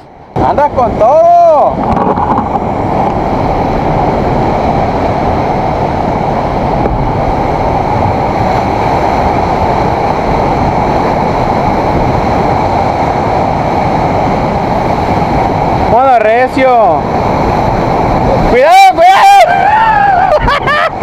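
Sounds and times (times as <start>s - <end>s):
heavy surf roaring: 0.0s - 21.0s
wind: 0.0s - 21.0s.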